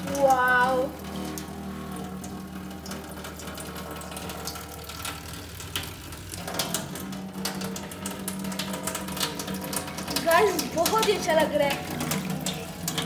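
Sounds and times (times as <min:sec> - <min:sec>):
water jet spattering on steel sink: 0:00.0 - 0:13.0.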